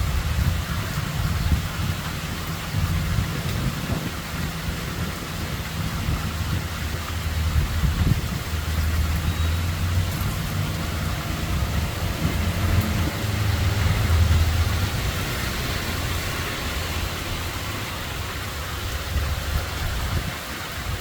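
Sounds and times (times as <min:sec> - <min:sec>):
low droning rumble: 0:00.0 - 0:21.0
steady rain falling: 0:00.0 - 0:21.0.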